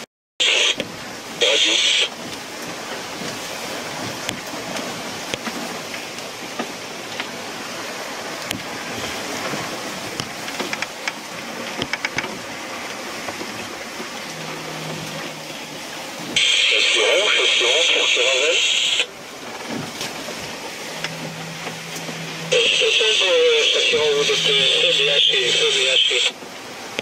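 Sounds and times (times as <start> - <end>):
water rushing along hulls: 0.0 - 27.0.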